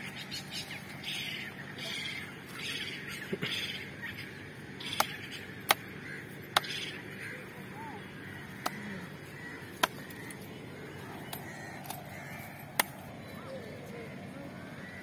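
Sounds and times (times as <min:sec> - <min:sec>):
faint bird calls: 0:00.0 - 0:15.0.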